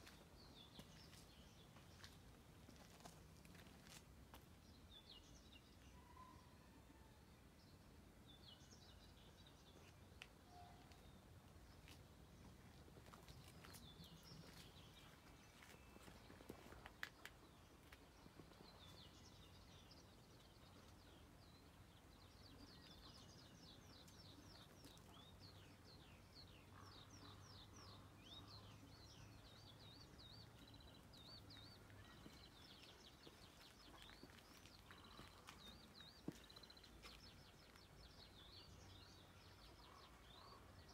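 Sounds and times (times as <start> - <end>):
songbird singing: 4.6 - 40.9.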